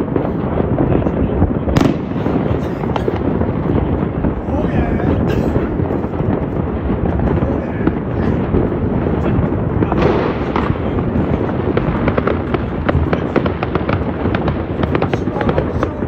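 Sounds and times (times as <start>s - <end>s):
distant firework bangs: 0.0s - 16.0s
firecracker cracks and crackling: 0.0s - 16.0s.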